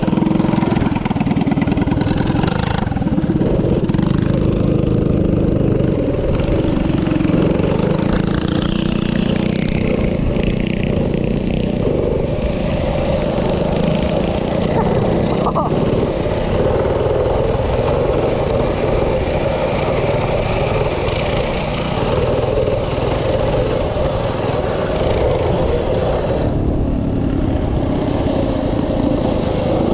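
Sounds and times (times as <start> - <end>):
minibike engine running: 0.0 - 29.9.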